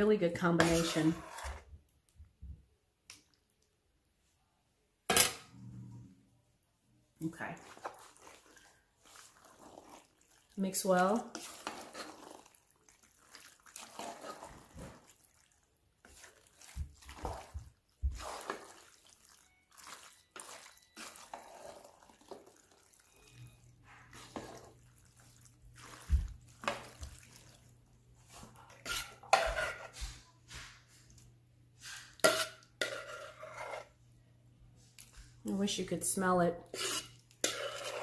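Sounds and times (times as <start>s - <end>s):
wet squelches of stirred pasta: 0.0s - 4.8s, 6.3s - 38.0s.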